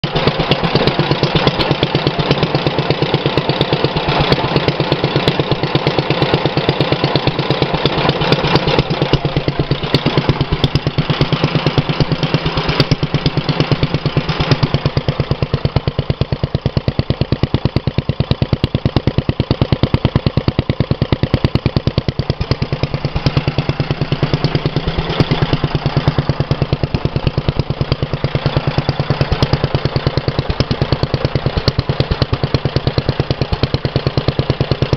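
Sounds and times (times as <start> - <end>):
stationary engine running: 0.0 - 34.9.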